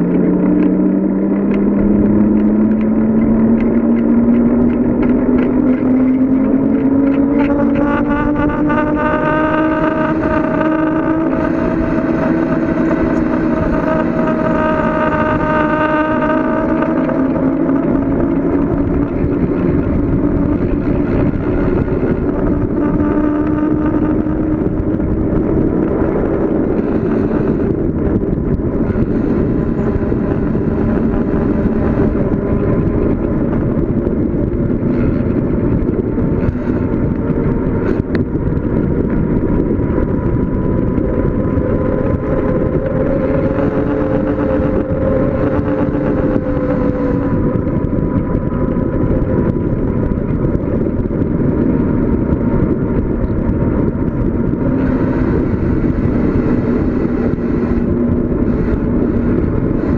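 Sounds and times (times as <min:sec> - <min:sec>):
bicycle road noise: 0:00.0 - 0:59.9
humming tone rising in pitch: 0:00.0 - 0:59.9
rushing wind: 0:00.0 - 0:59.9.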